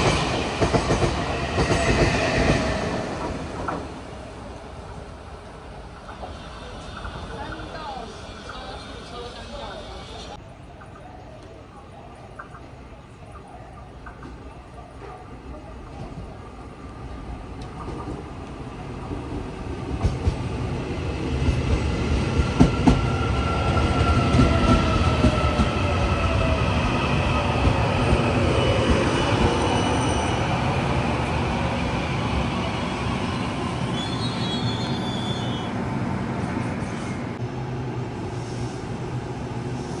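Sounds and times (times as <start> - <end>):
train wheels rumbling on rails: 0.0 - 5.1, 12.4 - 40.0.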